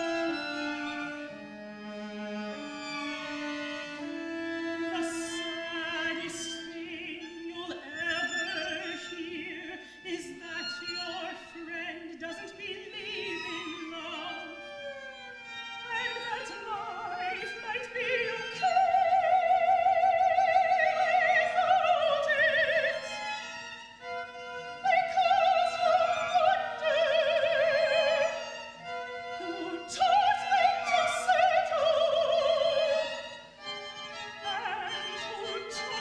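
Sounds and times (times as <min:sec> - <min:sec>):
soprano singing: 0:00.0 - 0:36.0
string quartet playing: 0:00.0 - 0:36.0.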